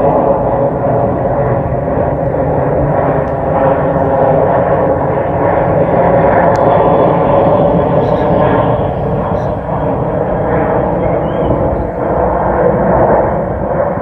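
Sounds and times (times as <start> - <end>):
jet plane flying over: 0.0 - 14.0.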